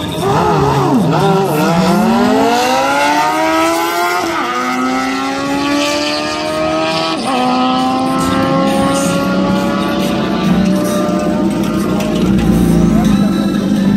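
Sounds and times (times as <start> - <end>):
sport bikes accelerating: 0.0 - 13.9.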